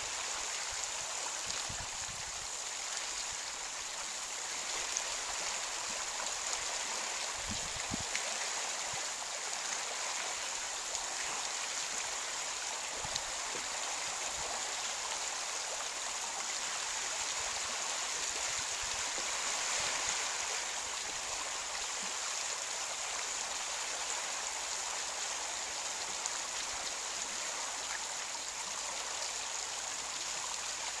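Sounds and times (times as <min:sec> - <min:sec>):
small waves lapping at shore: 0:00.0 - 0:31.0.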